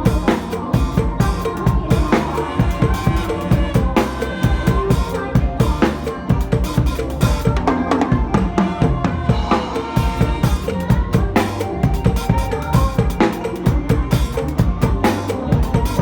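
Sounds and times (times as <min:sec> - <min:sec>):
backing track bass and melody: 0:00.0 - 0:16.0
drum kit playing fast rhythm: 0:00.0 - 0:16.0.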